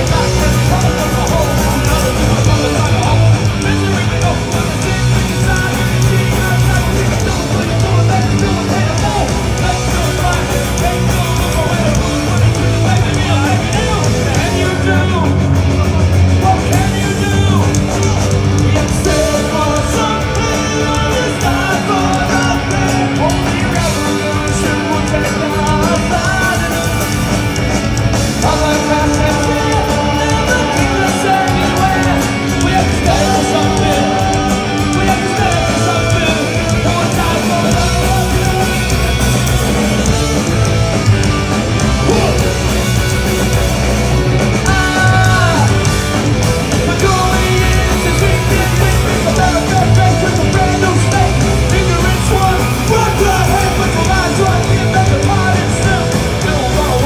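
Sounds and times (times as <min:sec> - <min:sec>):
drums: 0:00.0 - 0:57.0
electric guitar: 0:00.0 - 0:57.0.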